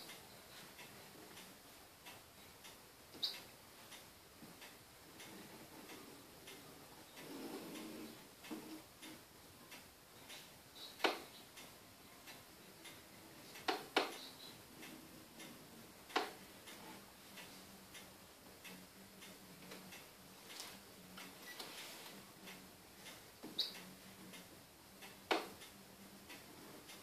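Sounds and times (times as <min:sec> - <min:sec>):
faint regular ticking: 0:00.0 - 0:27.0.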